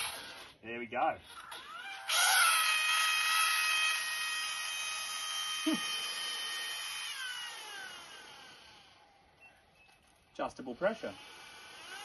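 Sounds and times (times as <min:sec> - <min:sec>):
pump whining: 0:01.3 - 0:12.0.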